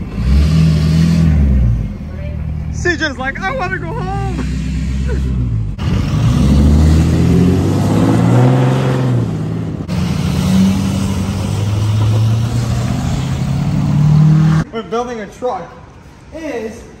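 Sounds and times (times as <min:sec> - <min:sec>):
truck engine revving: 0:00.0 - 0:14.7.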